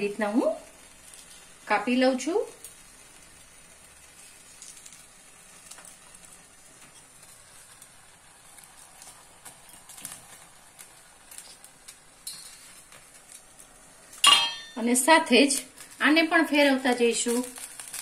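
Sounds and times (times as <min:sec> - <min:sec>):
chillies sizzling over flame: 0:00.0 - 0:18.0.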